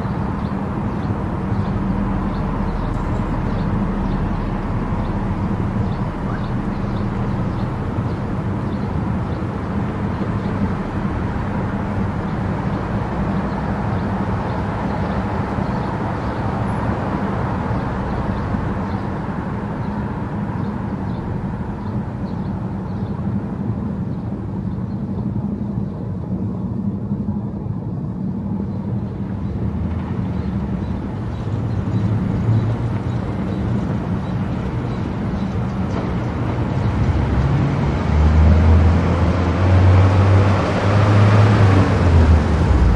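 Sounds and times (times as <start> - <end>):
car engine hum: 0.0 - 42.9.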